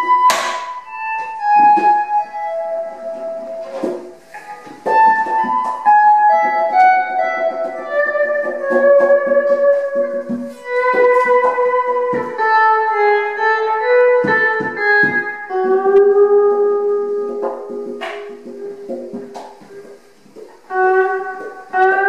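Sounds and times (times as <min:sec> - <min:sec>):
guitar long held notes: 0:00.0 - 0:22.0
low thumps: 0:00.0 - 0:22.0.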